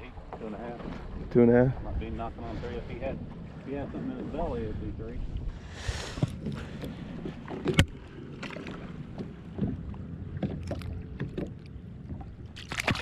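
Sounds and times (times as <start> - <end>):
knocks and clunks in a boat: 0.0 - 13.0.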